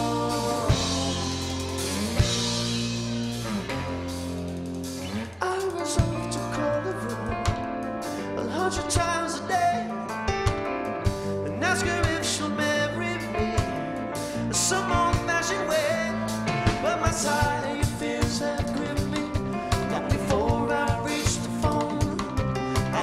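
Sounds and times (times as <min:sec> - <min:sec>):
man singing: 0:00.0 - 0:02.4, 0:05.3 - 0:10.4, 0:11.3 - 0:23.0
drum kit: 0:00.0 - 0:23.0
electric guitar: 0:00.0 - 0:23.0
keyboards: 0:00.0 - 0:23.0.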